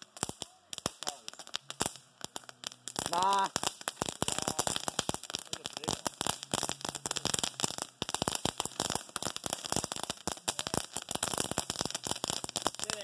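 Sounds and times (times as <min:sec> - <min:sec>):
firework crackling and popping: 0:00.0 - 0:13.0.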